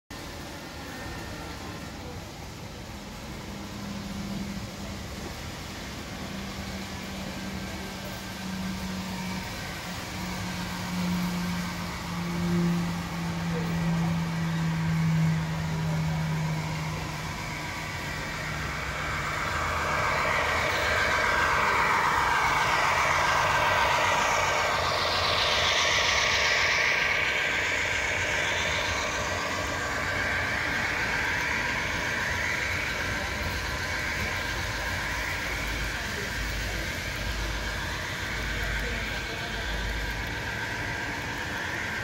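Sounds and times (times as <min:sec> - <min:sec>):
model locomotive diesel sound: 0:00.1 - 0:42.0.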